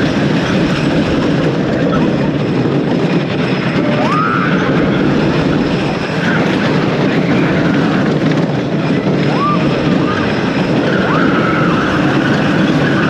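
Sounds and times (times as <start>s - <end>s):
roller coaster track roar: 0.0s - 13.0s.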